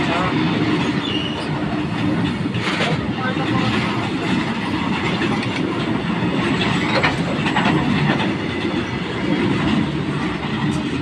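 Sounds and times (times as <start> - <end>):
train wheels rumbling on rails: 0.0 - 11.0
wheels clacking over rail joints: 0.0 - 11.0.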